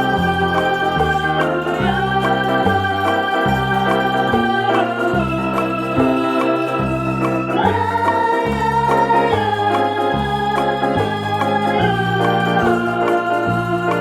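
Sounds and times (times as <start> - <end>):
electronic organ chords: 0.0 - 14.0.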